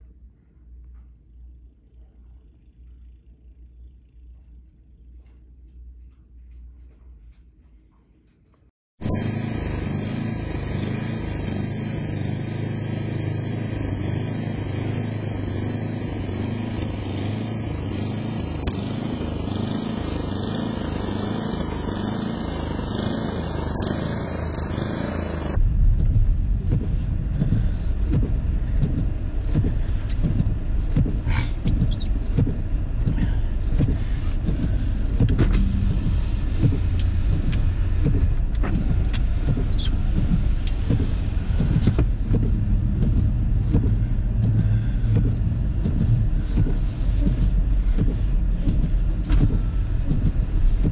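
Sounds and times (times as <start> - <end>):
car engine and road rumble: 9.0 - 50.9.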